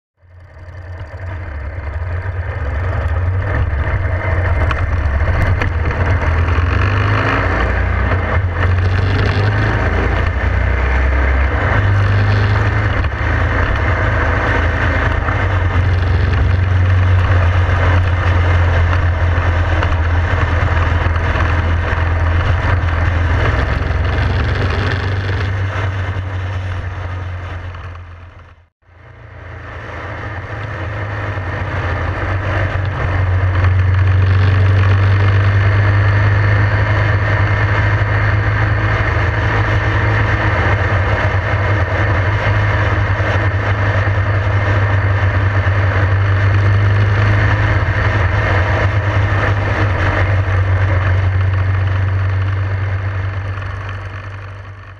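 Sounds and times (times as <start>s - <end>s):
motorcycle engine rumbling: 0.2s - 54.9s
wind and road noise: 0.2s - 54.9s.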